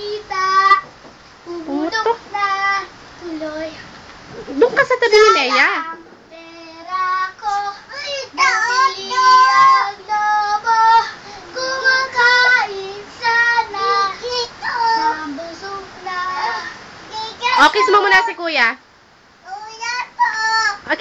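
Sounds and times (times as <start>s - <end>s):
child singing: 0.0s - 0.9s, 1.5s - 3.9s, 5.4s - 18.4s, 19.4s - 20.9s.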